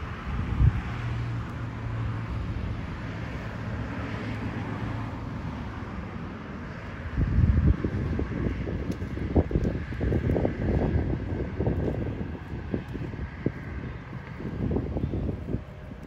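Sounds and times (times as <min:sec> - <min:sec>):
low outdoor rumble: 0:00.0 - 0:16.0
vehicle engine hum: 0:00.0 - 0:16.0
wind buffeting microphone: 0:00.0 - 0:16.0.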